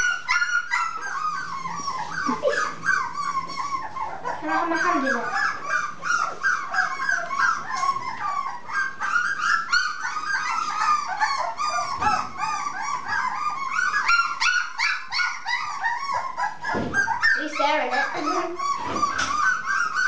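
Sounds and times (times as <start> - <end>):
puppies whimpering and yipping: 0.0 - 20.0.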